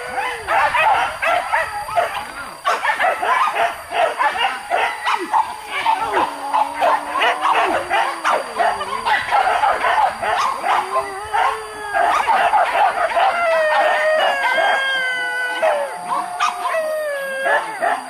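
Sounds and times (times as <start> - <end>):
dogs barking and yelping: 0.0 - 18.0
dogs howling: 0.0 - 18.0.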